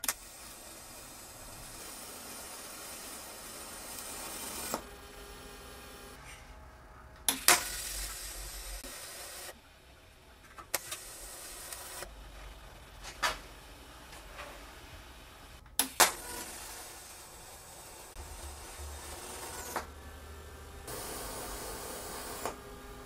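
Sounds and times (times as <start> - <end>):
welding arc hissing: 0.0 - 6.2, 7.3 - 9.6, 10.8 - 12.2, 12.9 - 22.8.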